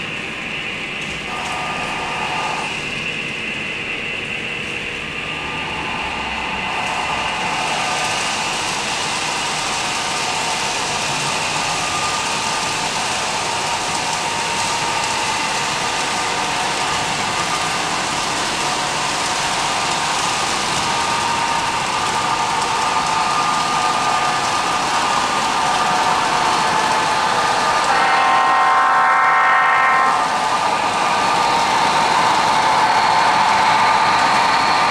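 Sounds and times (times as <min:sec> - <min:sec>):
model train running hiss: 0:00.0 - 0:34.9.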